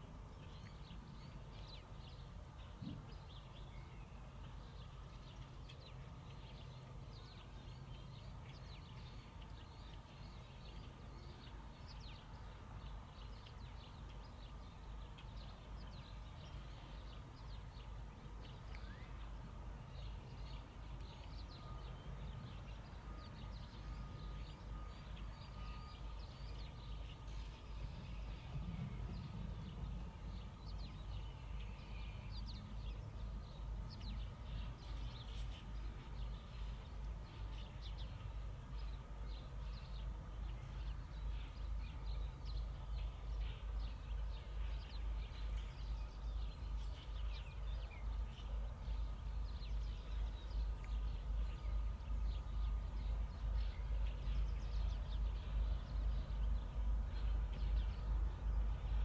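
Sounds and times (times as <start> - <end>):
faint steady whine: 0.0 - 59.0
small birds chirping: 0.3 - 59.0.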